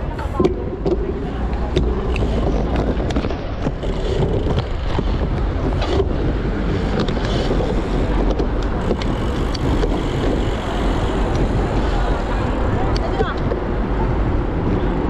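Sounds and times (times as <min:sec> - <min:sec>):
road rumble: 0:00.0 - 0:15.0
wind rush on microphone: 0:00.0 - 0:15.0.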